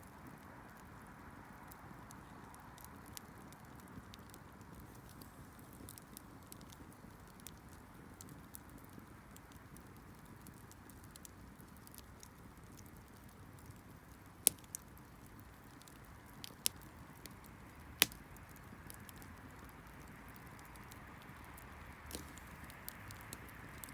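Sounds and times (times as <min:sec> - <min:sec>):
bonfire crackling: 0:00.0 - 0:23.9
low fire hiss: 0:00.0 - 0:23.9.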